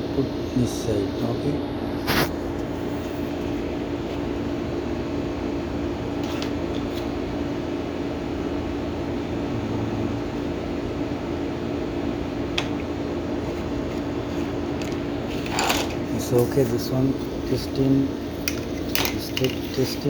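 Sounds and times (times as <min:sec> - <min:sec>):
mechanical fan hum: 0:00.0 - 0:20.0.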